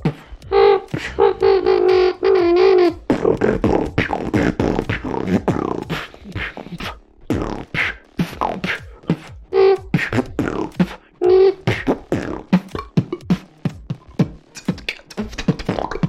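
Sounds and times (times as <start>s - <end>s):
beatbox clicks and beats: 0.0s - 16.0s
beatbox siren lip buzz: 0.0s - 16.0s.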